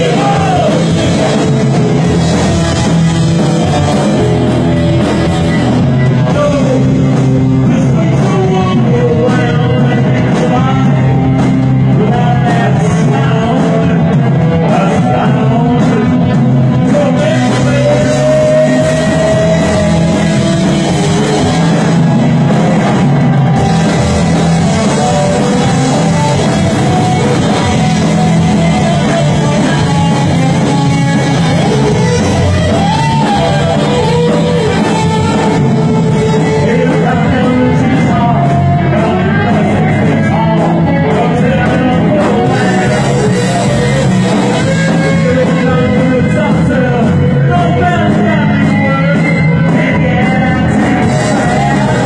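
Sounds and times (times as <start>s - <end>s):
person singing: 0.0s - 52.0s
punk rock band playing: 0.0s - 52.0s.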